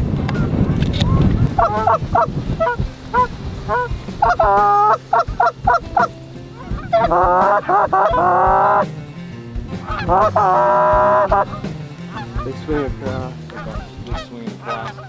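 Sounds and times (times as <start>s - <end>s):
goose honking and clucking: 0.3s - 9.0s, 9.8s - 15.0s.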